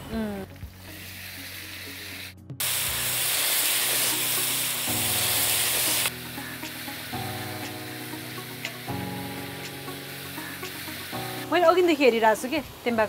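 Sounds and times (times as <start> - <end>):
soft background music: 0.0 - 13.0
meat sizzling in hot oil: 0.9 - 12.8.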